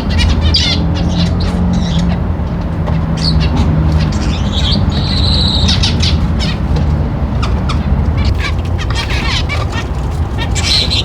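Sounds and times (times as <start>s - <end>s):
small birds chirping and squawking: 0.0s - 11.0s
steady low rumble: 0.0s - 11.0s.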